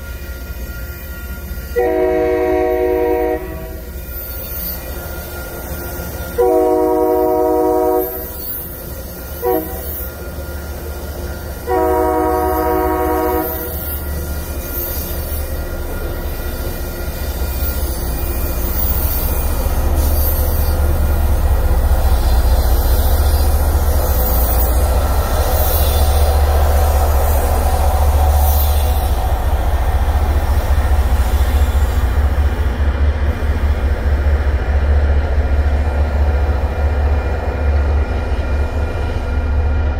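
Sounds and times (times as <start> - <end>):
train rumbling past: 0.0 - 39.9
train wheel squeal: 0.0 - 39.9.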